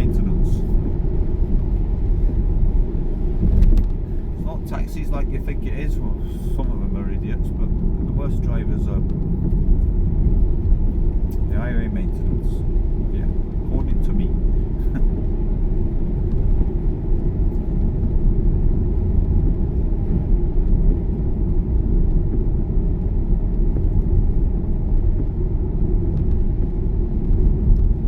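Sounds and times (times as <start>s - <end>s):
car engine rumble inside cabin: 0.0s - 28.0s.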